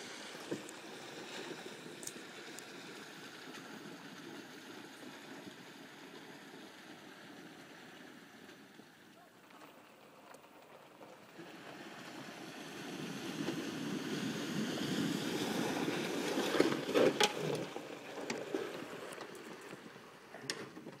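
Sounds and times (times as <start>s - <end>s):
water splashing around wheels: 0.0s - 21.0s.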